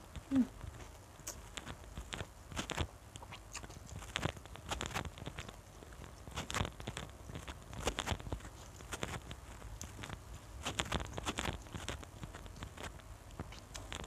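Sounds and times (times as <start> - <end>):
chewing with crisp crunches: 0.0 - 14.0.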